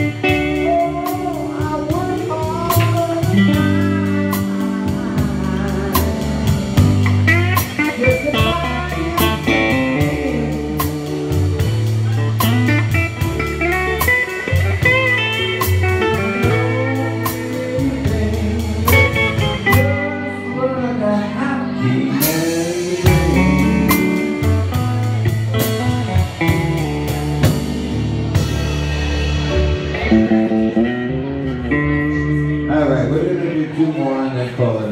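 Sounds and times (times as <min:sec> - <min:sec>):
drums and cymbals: 0:00.0 - 0:20.1, 0:22.2 - 0:31.9
electric guitar lead lines: 0:00.0 - 0:34.6
bass line: 0:00.0 - 0:34.8.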